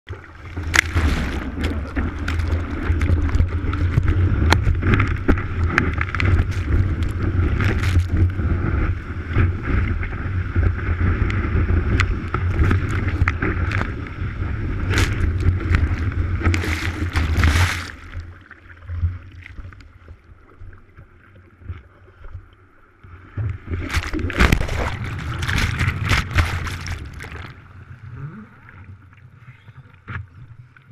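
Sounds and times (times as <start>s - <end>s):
water rushing and splashing: 0.1s - 30.0s
water sloshing and lapping: 0.1s - 30.9s.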